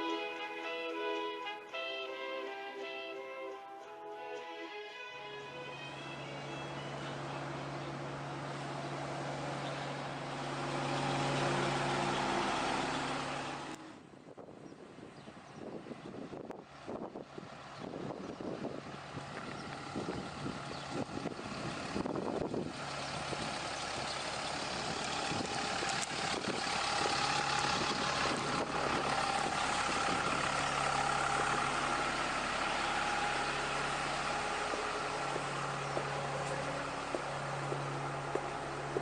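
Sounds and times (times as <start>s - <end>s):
bus diesel engine idling: 0.0s - 39.0s.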